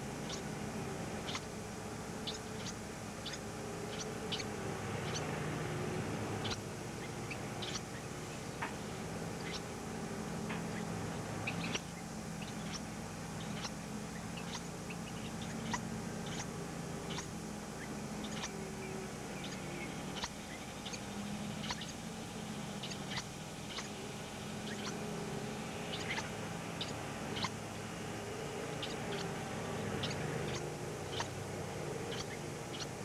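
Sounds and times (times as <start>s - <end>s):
baby birds peeping: 0.0s - 33.0s
low hum: 0.0s - 33.0s.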